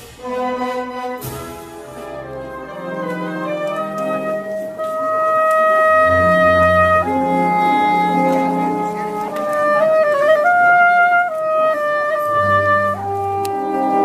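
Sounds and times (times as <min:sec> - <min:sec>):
brass and woodwind band playing: 0:00.0 - 0:14.0.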